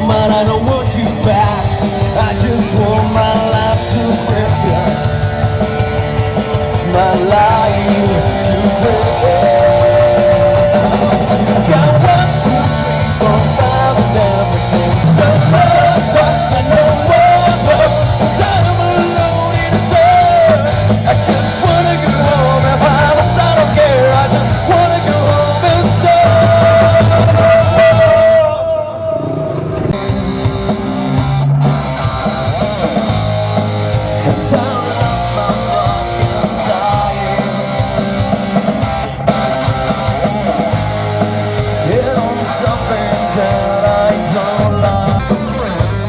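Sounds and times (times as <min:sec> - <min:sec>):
person singing: 0:00.0 - 0:33.1, 0:34.1 - 0:40.8, 0:41.6 - 0:46.0
bass: 0:00.0 - 0:46.0
guitar: 0:00.0 - 0:46.0.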